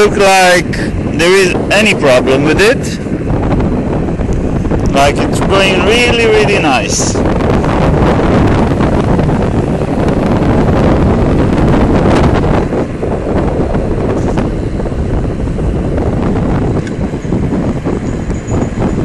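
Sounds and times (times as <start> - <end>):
tyres rumbling on asphalt: 0.0 - 19.0
wind buffeting microphone: 0.0 - 19.0.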